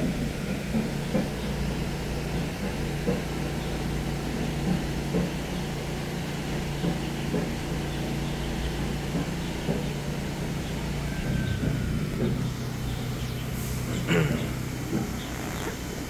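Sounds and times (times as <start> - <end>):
steam locomotive low rumble: 0.0 - 16.0.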